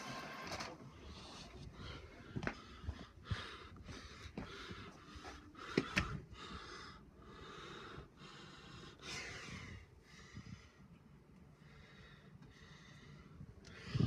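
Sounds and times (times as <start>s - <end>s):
faint breathing: 1.0s - 14.0s.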